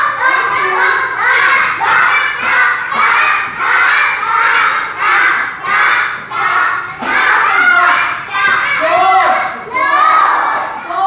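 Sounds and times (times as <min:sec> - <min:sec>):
children chanting in unison: 0:00.0 - 0:11.0.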